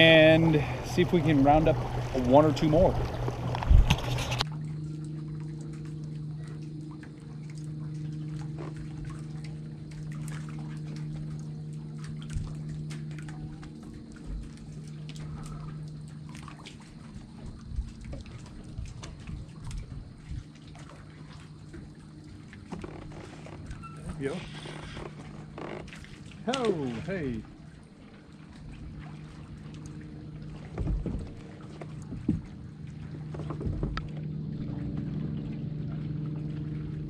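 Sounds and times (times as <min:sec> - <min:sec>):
drips and splashes: 0:00.0 - 0:37.0
steady low hum: 0:00.0 - 0:37.0
waves lapping against hull: 0:00.0 - 0:37.0.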